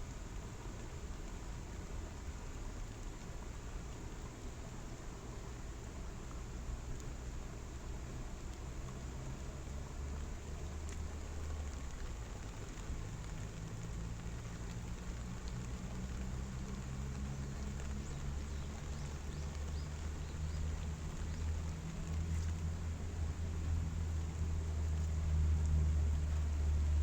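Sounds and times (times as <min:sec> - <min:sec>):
rain: 0:00.0 - 0:27.0.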